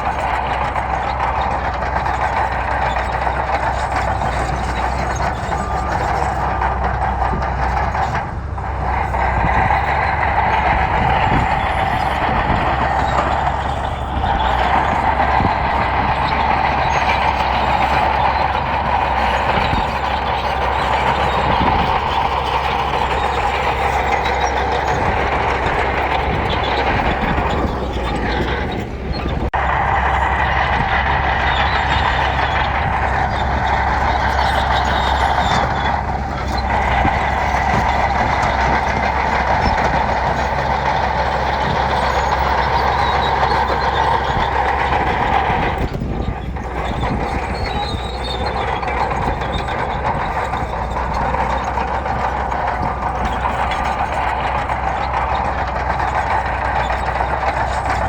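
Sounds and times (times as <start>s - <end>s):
diesel earthmoving machinery: 0.0s - 58.0s.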